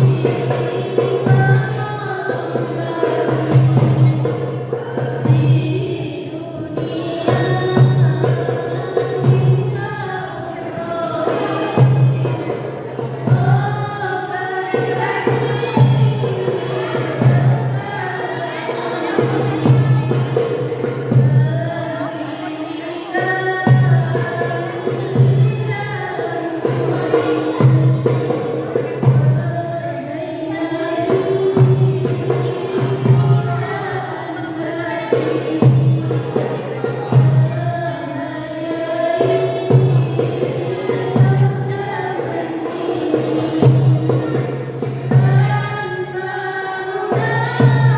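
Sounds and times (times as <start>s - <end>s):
tambourine-like percussion: 0.0s - 47.9s
voices singing devotional songs: 0.0s - 47.9s.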